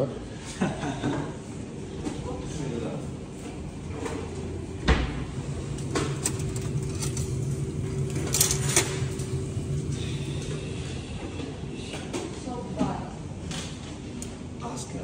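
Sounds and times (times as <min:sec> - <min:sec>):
steady machine hum: 0:00.6 - 0:15.0.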